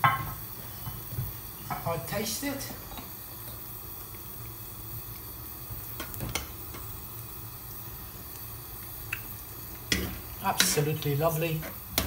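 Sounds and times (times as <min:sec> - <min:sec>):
gas burner rumble: 0:00.0 - 0:12.0
stew simmering in a wok: 0:00.0 - 0:12.0.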